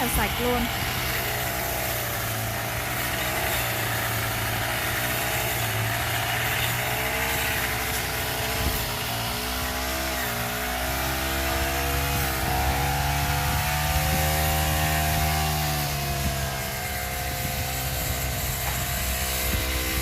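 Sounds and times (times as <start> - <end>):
brush cutter cutting grass: 0.0 - 20.0.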